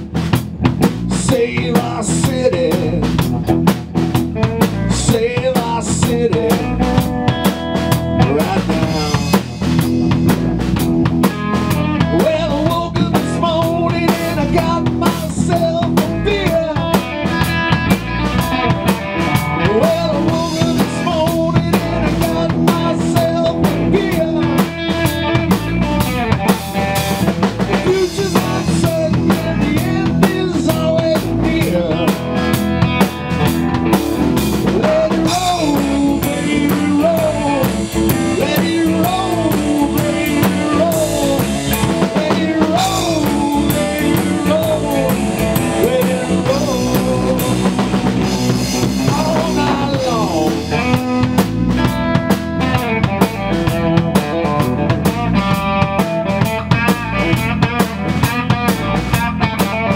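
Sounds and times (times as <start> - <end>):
band music: 0.0 - 59.9
drum kit beat: 0.0 - 59.9.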